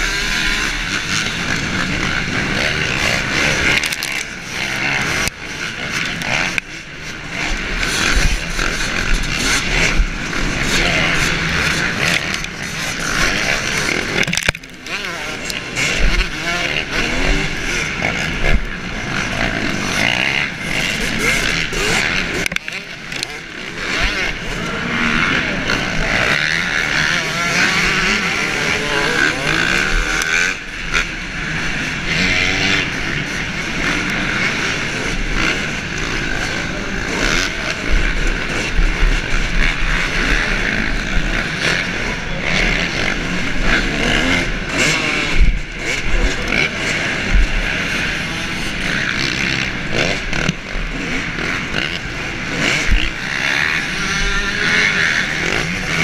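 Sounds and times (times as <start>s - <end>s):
dirt bike engine revving: 0.0s - 56.0s
other motorbike engines: 0.0s - 56.0s.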